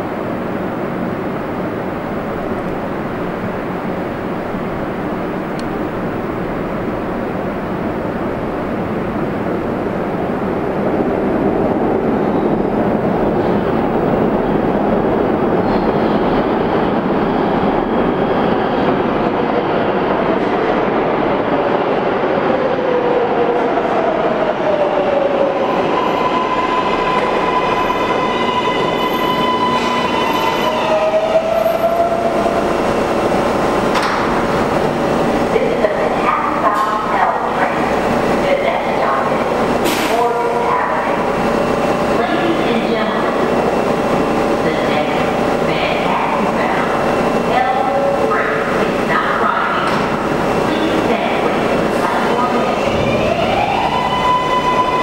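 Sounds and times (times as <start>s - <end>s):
train wheel and track rumble: 0.0s - 55.0s.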